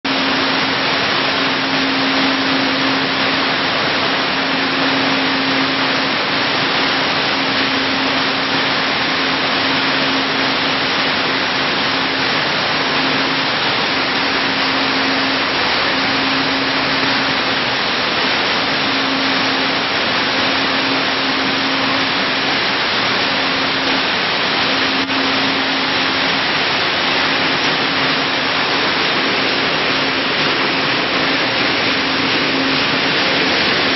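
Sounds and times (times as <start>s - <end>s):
low machine hum: 0.0s - 33.9s
machinery rushing noise: 0.0s - 33.9s.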